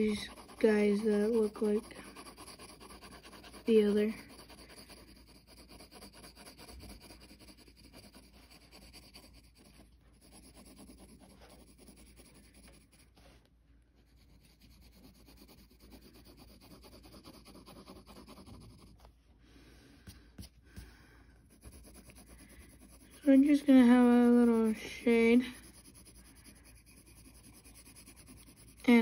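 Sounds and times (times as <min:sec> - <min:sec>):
pencil scratching on paper: 0:00.0 - 0:13.4, 0:14.0 - 0:19.2, 0:20.0 - 0:29.0.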